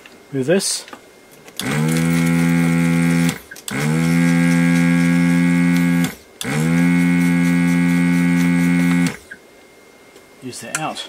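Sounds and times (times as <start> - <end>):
desoldering vacuum pump humming: 0.0 - 11.0.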